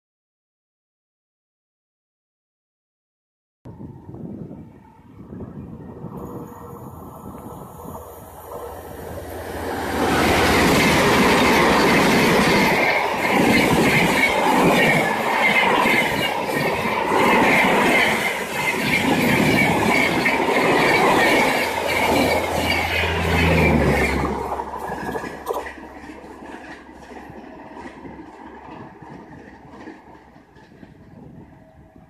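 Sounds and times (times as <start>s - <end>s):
train wheels rushing on rail: 5.2s - 32.0s.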